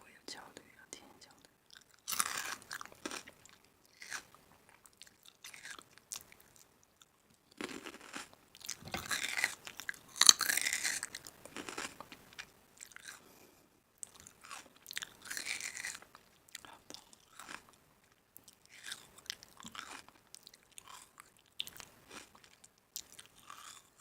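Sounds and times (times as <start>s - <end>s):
crunching crisp food: 1.7s - 13.2s, 14.0s - 17.8s, 18.4s - 24.0s.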